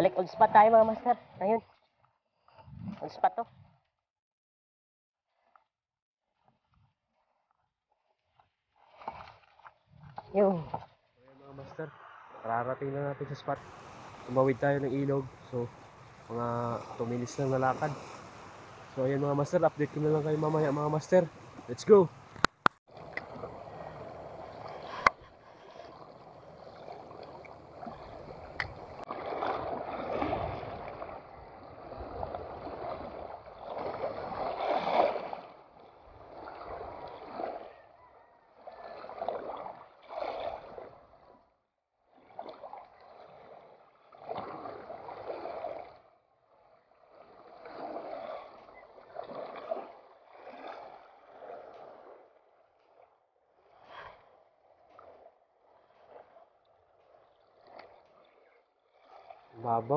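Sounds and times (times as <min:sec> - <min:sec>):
seawater sloshing: 0:08.3 - 0:12.0, 0:13.5 - 0:59.9.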